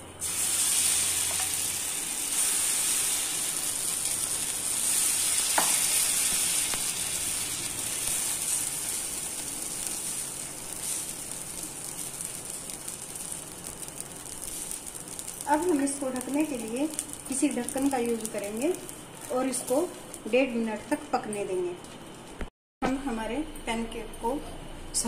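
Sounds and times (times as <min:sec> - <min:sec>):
batter sizzling on hot pan: 0:00.2 - 0:20.7.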